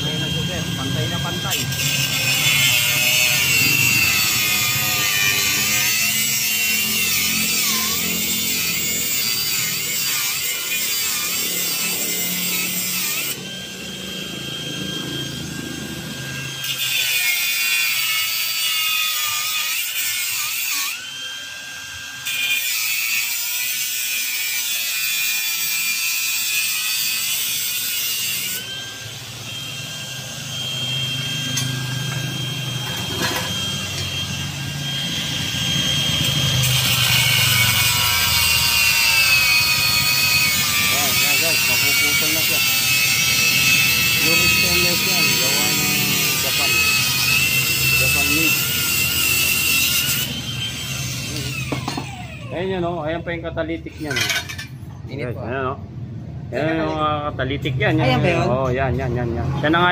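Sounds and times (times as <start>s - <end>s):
grinder disc whining: 0.0s - 55.1s
angle grinder cutting steel pipe: 0.0s - 55.5s, 56.6s - 59.9s.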